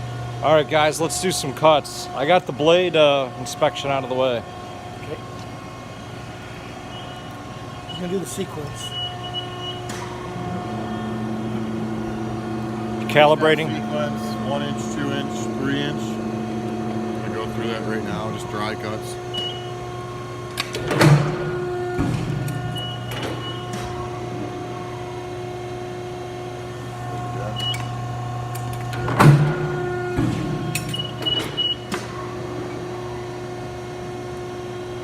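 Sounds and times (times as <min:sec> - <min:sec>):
motor humming: 0:00.0 - 0:35.0
steady whine: 0:00.0 - 0:35.0.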